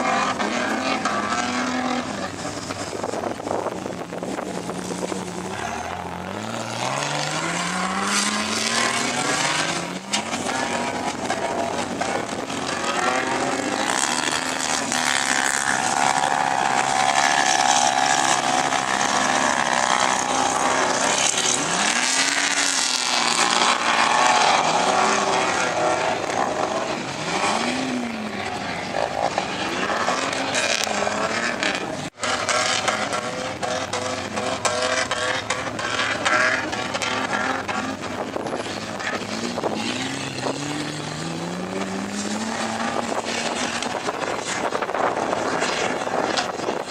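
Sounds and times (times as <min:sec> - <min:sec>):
off-road engines revving: 0:00.0 - 0:46.9.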